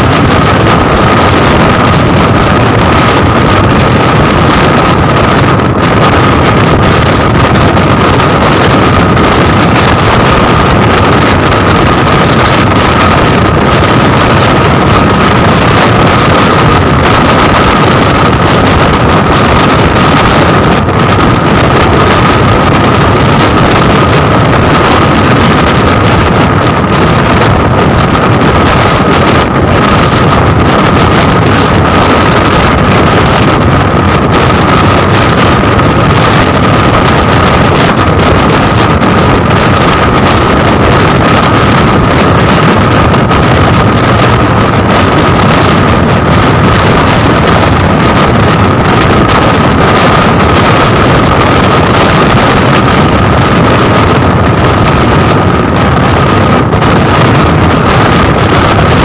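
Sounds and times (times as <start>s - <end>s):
thin high whine: 0.0s - 55.0s
express train running noise: 0.0s - 59.0s
wind buffeting microphone: 0.0s - 59.0s.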